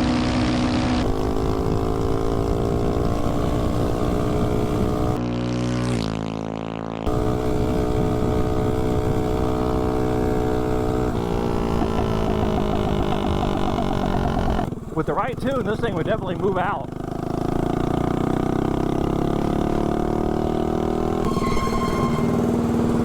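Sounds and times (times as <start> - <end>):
mini bike engine revving: 0.0 - 6.2, 7.1 - 23.0.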